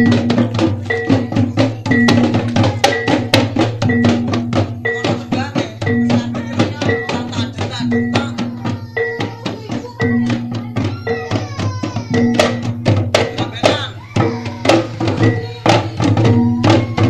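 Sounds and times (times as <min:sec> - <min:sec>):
hand drums beaten fast: 0:00.0 - 0:17.0.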